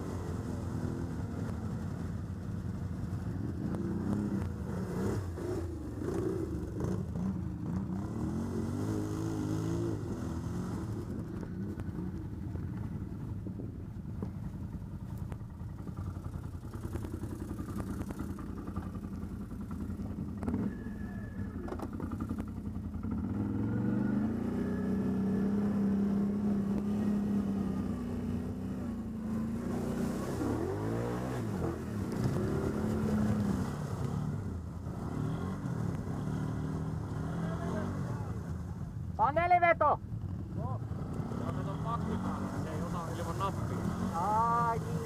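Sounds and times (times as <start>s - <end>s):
atv engine revving: 0.0s - 13.2s, 15.6s - 39.3s, 40.1s - 45.0s.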